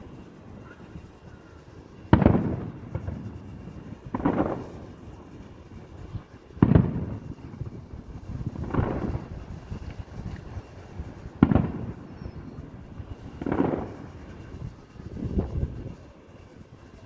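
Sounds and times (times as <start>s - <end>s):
fireworks booming: 0.0s - 16.2s.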